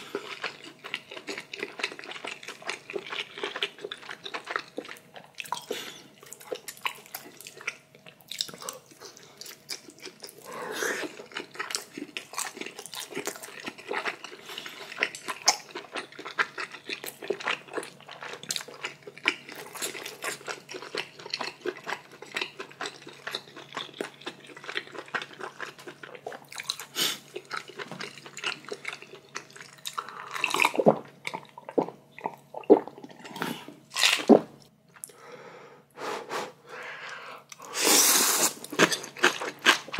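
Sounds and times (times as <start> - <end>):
chewing and slurping noodles: 0.0 - 34.4, 37.5 - 39.9
faint steady hum: 0.0 - 39.9.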